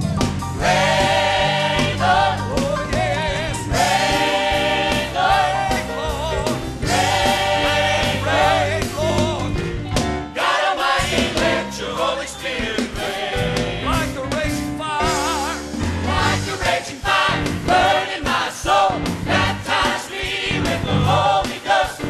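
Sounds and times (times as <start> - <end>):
instrumental backing with beat: 0.0 - 22.0
gospel choir singing: 0.5 - 22.0.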